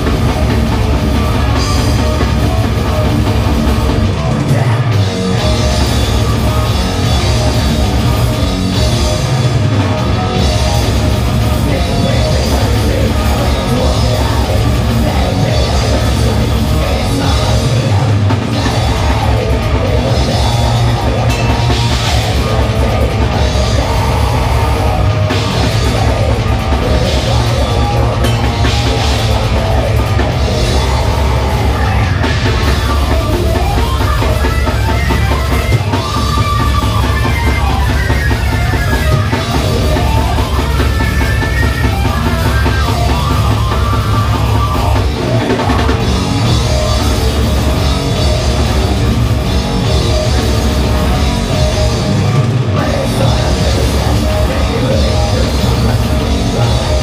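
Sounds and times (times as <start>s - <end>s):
bass guitar: 0.0s - 57.0s
distorted electric guitar: 0.0s - 57.0s
fast drumming: 0.0s - 57.0s.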